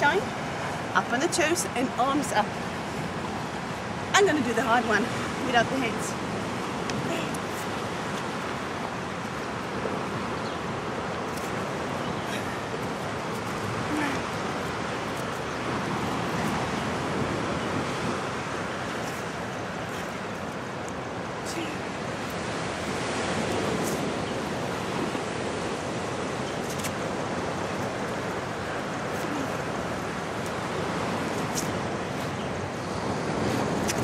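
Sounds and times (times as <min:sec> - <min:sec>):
ocean surf washing: 0:00.0 - 0:34.0.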